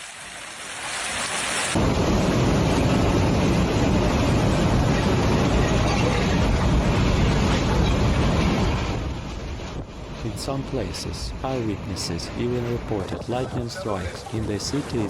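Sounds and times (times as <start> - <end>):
heavy rain hissing: 0.0 - 15.0
rolling thunder rumble: 1.8 - 15.0.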